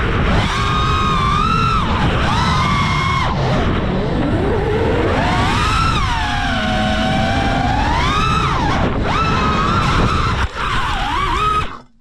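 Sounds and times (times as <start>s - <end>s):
electric motor and propeller whining: 0.0s - 12.0s
low wind rush: 0.0s - 12.0s.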